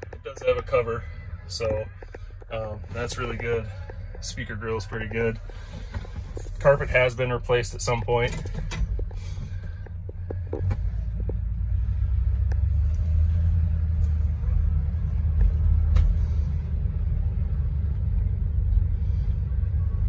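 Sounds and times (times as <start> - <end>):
car engine rumble from inside: 0.0 - 20.0.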